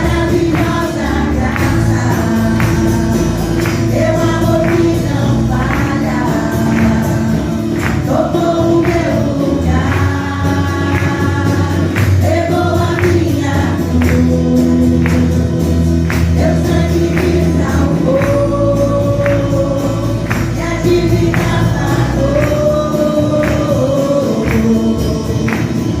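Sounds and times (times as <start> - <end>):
regular percussion beat: 0.0 - 26.0
singers holding long lines: 0.0 - 26.0
steady bass: 0.0 - 26.0.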